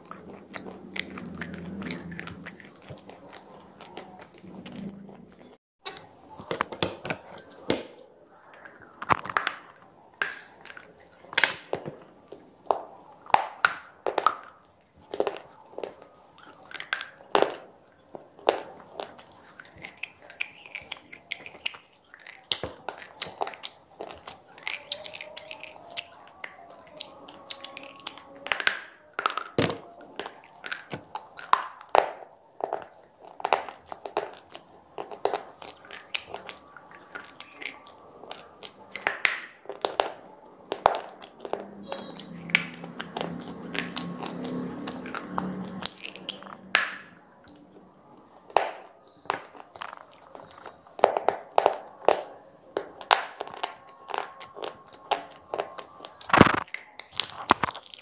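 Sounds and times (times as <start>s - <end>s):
slate crunching and cracking: 0.0s - 5.6s, 6.2s - 58.0s.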